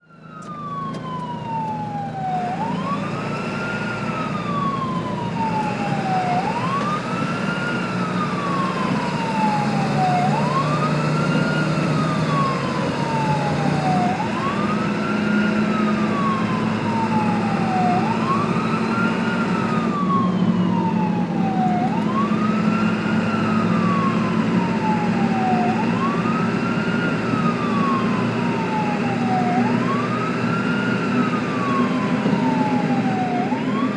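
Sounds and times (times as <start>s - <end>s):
ambulance siren wailing: 0.0s - 33.9s.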